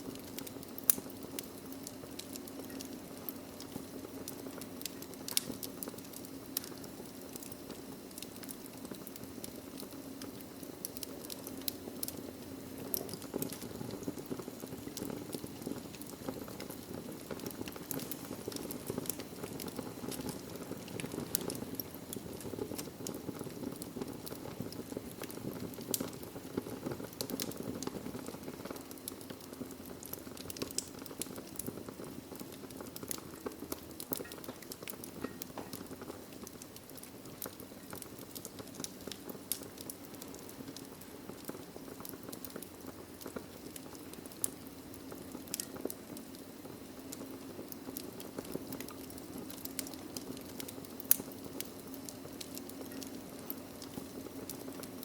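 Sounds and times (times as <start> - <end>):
fire flames rushing: 0.0 - 55.0
logs crackling and popping: 0.0 - 55.0.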